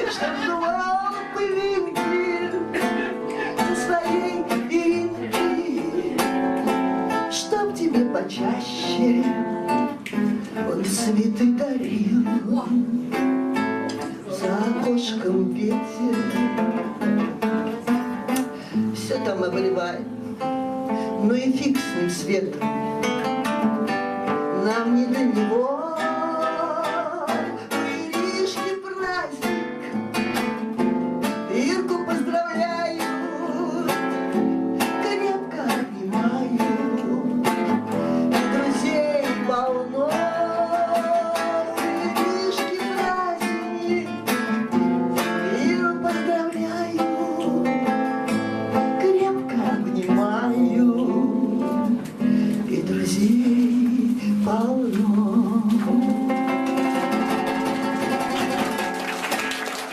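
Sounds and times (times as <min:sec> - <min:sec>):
acoustic guitar strummed and plucked: 0:00.0 - 0:59.9.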